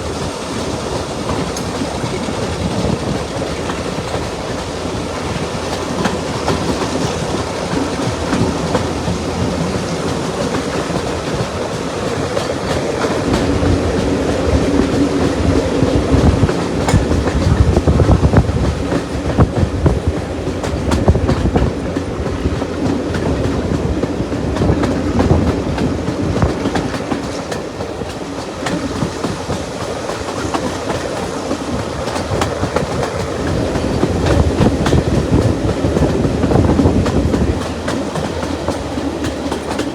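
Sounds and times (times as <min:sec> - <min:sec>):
train rumble: 0:00.0 - 0:39.9
wheels clicking over rail joints: 0:00.0 - 0:39.9.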